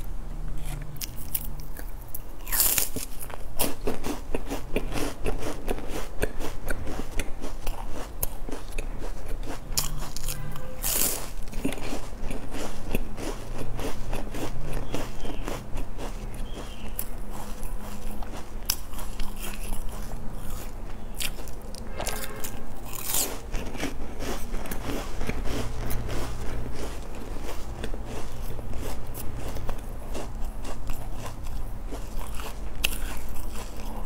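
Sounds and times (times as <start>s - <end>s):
chewing and crunching snack bar: 0.0s - 34.0s.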